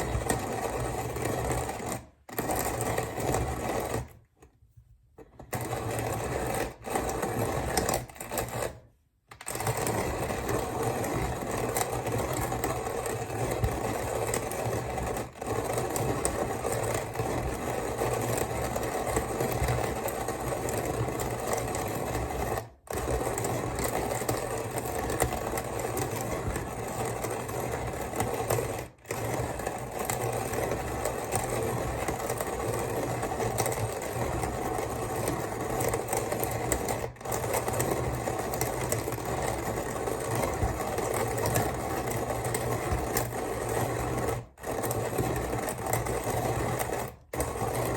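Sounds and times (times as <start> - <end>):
hand coffee mill grinding beans: 0.0 - 4.2, 5.5 - 47.9.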